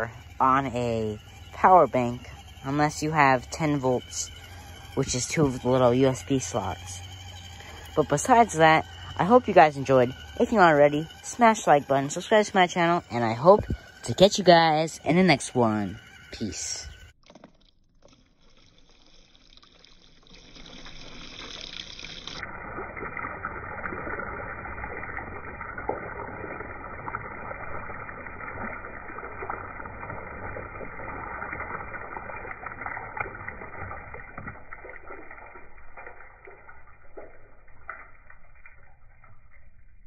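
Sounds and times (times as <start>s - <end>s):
water drips and splats: 0.0s - 16.4s, 17.0s - 40.0s
water splashing: 0.0s - 40.0s.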